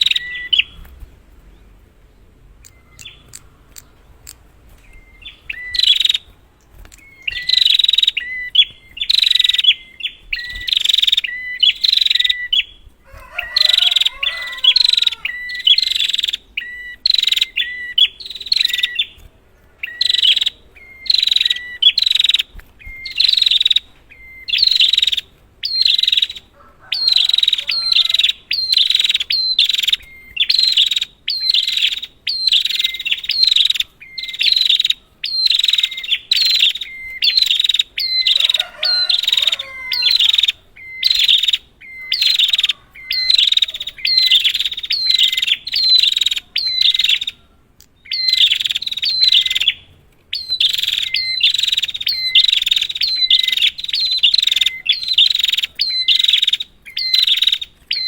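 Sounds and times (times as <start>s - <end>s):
bird harsh buzzy calls: 0.0s - 58.0s
fainter lower bird call: 0.0s - 58.0s.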